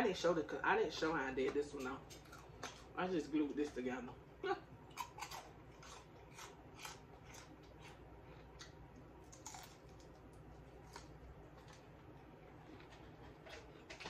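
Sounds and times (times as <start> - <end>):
chewing crispy fried chicken: 0.9 - 4.1, 4.9 - 14.0.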